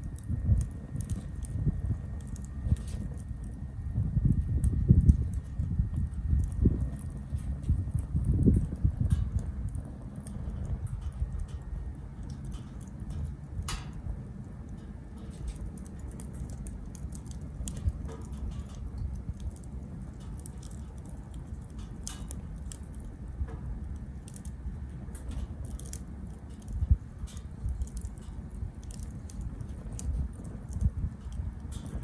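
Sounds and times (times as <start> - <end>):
low rumble: 0.0 - 32.0
wood fire crackling and popping: 0.0 - 32.0.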